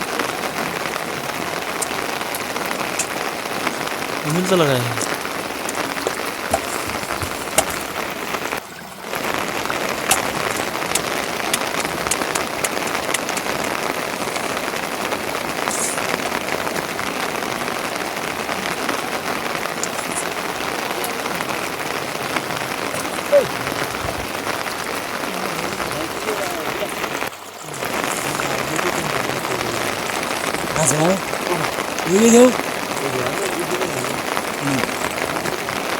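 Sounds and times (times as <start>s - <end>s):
steady rain falling: 0.0s - 35.9s
ticks of raindrops: 0.0s - 35.9s.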